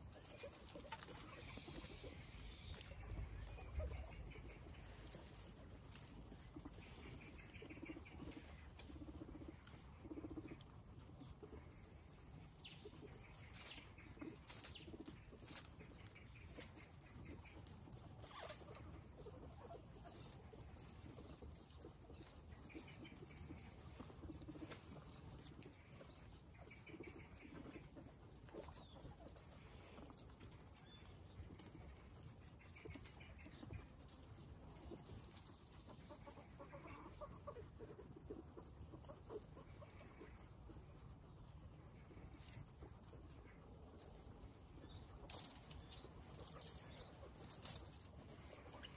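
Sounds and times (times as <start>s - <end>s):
guinea pig soft calls: 0.0s - 48.9s
guinea pigs chewing: 0.0s - 48.9s
rustling in straw: 0.0s - 48.9s.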